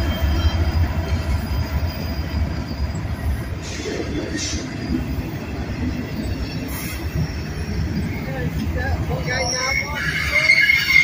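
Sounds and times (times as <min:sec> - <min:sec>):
freight train rumbling past: 0:00.0 - 0:11.0
train wheel squeals: 0:00.0 - 0:11.0.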